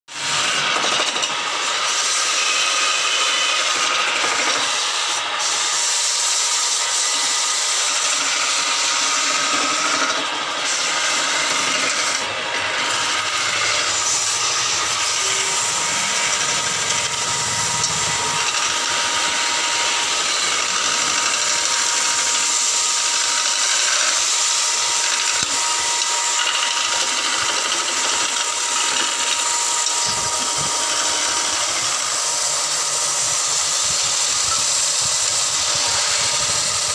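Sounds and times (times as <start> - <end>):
chisel scraping spinning wood: 0.1 - 36.9
wood lathe running: 0.1 - 36.9.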